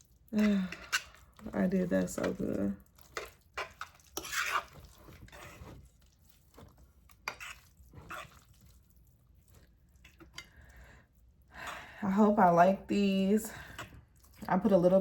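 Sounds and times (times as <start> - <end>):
wet squishing of noodles: 0.0 - 15.0.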